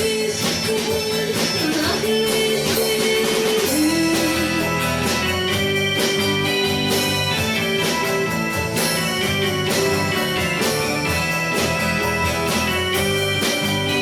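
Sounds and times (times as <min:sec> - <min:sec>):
percussion: 0:00.0 - 0:14.0
strummed guitar: 0:00.0 - 0:14.0
sustained guitar melody: 0:00.0 - 0:14.0.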